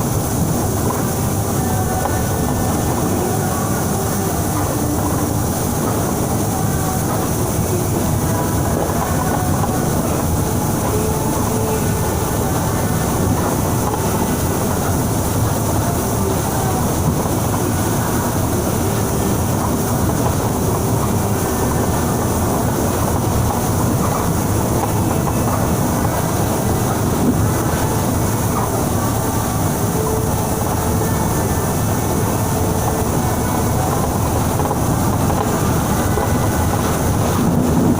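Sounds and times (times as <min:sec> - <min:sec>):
bus engine rumble: 0:00.0 - 0:37.9
heavy rain hiss: 0:00.0 - 0:37.9.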